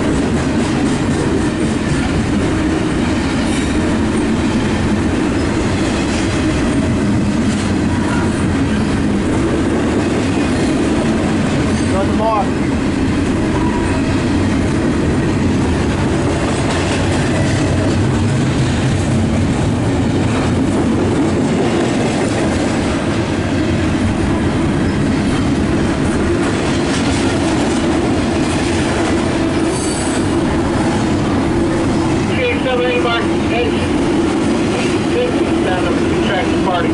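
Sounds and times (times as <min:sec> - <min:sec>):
freight train wheels rumbling: 0:00.0 - 0:36.9
rhythmic clicking of rails: 0:00.0 - 0:36.9.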